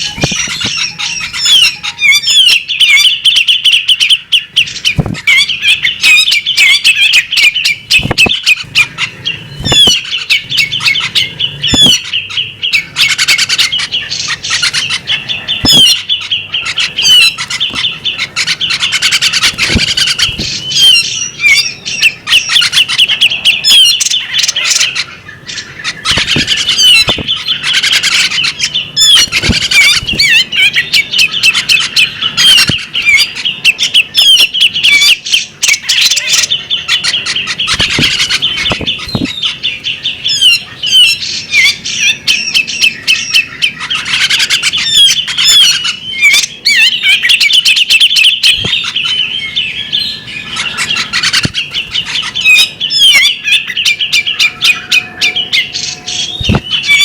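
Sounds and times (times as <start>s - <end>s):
bird singing rapid chirps: 0.0s - 57.0s.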